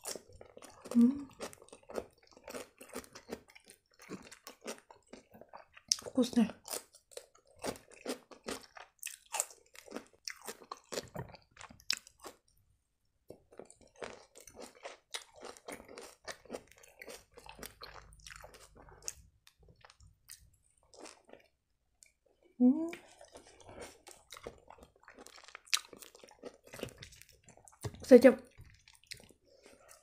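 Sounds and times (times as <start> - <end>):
crunchy chewing of cucumber: 0.0 - 12.5, 13.5 - 21.5, 23.0 - 27.9, 28.5 - 30.0.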